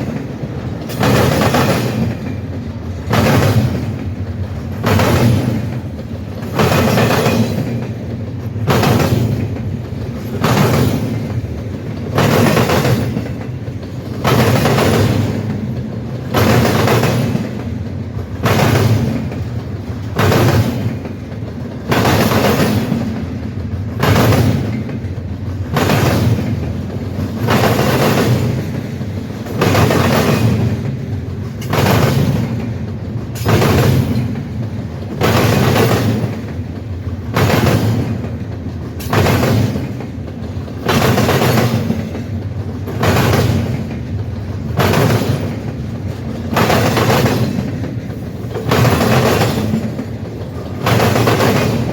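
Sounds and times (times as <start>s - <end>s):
train wheels clattering over crossing: 0.0s - 51.9s.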